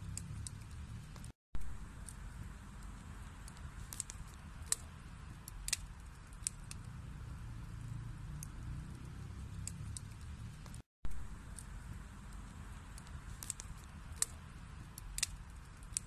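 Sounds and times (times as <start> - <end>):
burning logs crackling: 0.0 - 16.0
fireplace flames rumbling: 0.0 - 16.0.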